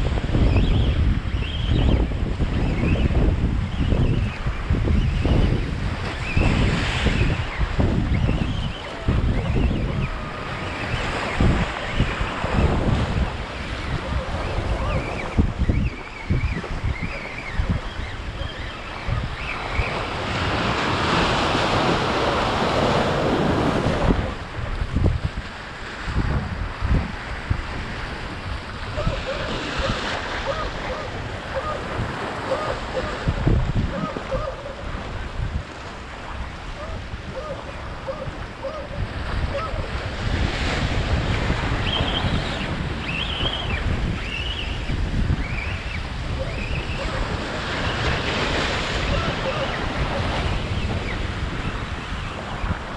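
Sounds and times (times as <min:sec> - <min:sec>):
surf washing in: 0:00.0 - 0:52.9
wind buffeting microphone: 0:00.0 - 0:52.9.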